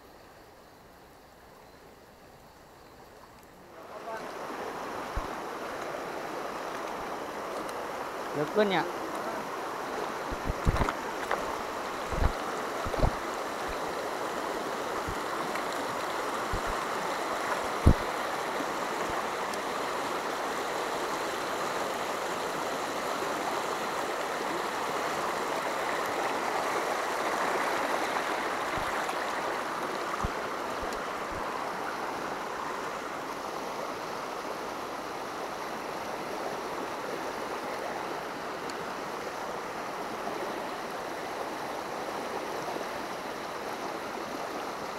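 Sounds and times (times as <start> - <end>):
river rushing over rocks: 3.6 - 44.9.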